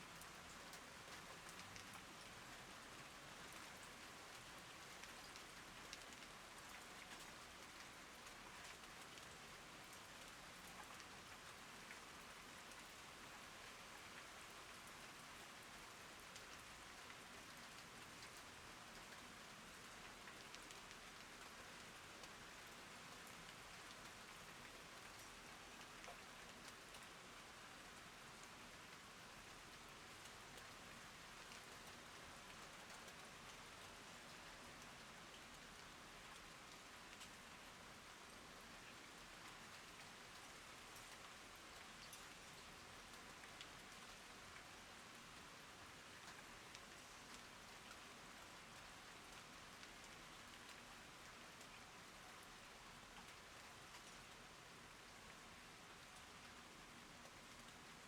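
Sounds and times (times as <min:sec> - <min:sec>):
faint steady rain: 0:00.0 - 0:58.0.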